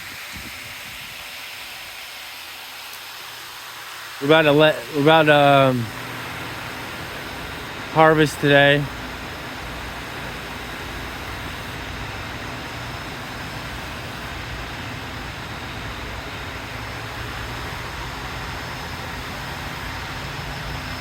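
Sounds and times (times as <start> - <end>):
faint electric hum: 0.0 - 21.0
machinery rushing noise: 3.9 - 21.0.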